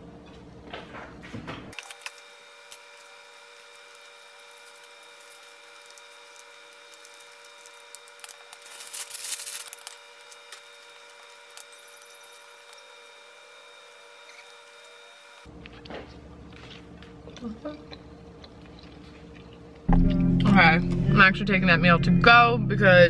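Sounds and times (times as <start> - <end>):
steady high hum: 1.7 - 23.0.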